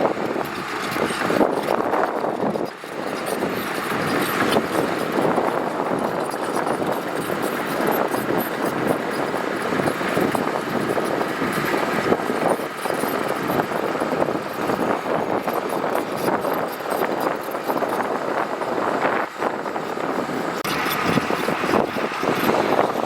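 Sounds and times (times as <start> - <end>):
diesel machine running: 0.0 - 23.0.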